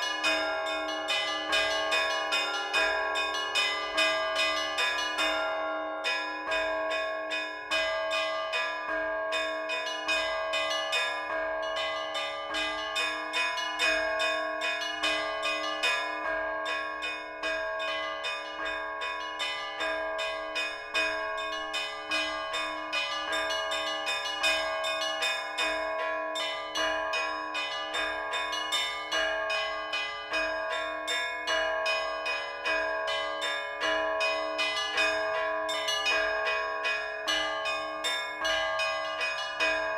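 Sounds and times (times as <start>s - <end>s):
large bells ringing: 0.0s - 39.9s
small church bells struck quickly: 0.0s - 39.9s.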